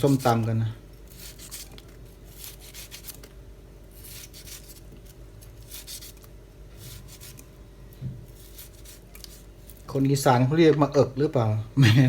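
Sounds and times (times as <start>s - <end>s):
knife cutting fruit: 0.0s - 9.8s
steady low hum: 0.0s - 12.0s.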